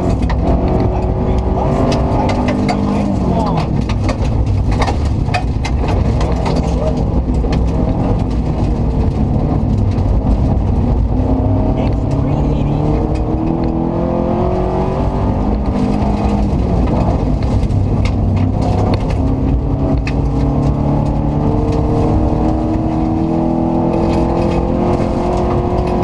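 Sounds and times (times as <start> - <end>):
gravel striking car: 0.0 - 12.2, 12.9 - 26.0
rally car engine pulling hard: 0.0 - 26.0.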